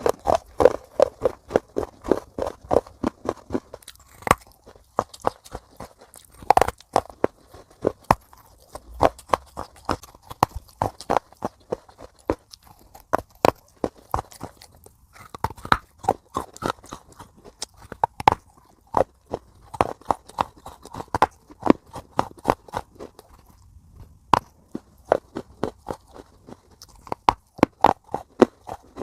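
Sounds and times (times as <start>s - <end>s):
crunchy food being chewed: 0.0s - 29.0s.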